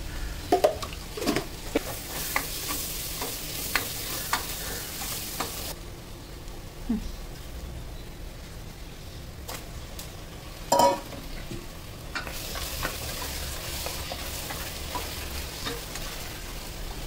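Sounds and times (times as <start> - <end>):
food sizzling in oil: 0.1 - 6.8, 9.4 - 17.0.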